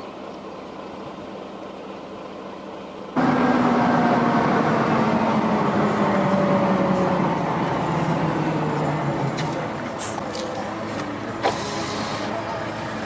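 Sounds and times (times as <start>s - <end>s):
heavy truck engine under load: 0.0s - 13.0s.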